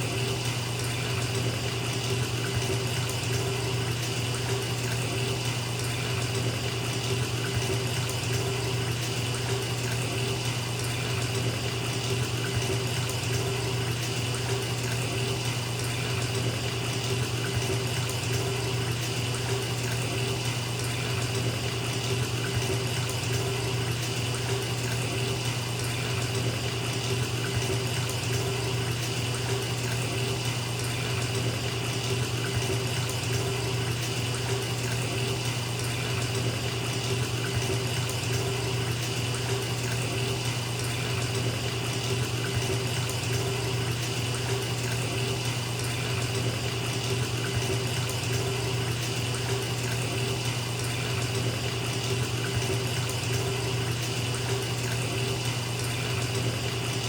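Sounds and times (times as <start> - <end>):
tap water pouring into tub: 0.0 - 57.0.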